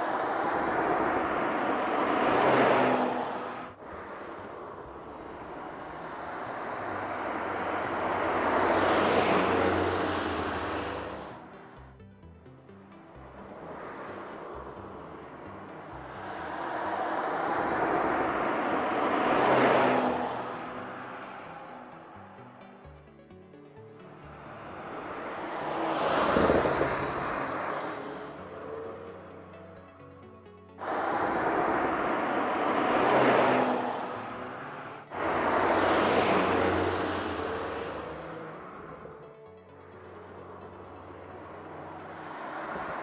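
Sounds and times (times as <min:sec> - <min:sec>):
car driving past: 0:00.0 - 0:11.5, 0:13.4 - 0:22.6, 0:24.2 - 0:29.7, 0:30.8 - 0:39.3, 0:40.3 - 0:43.0.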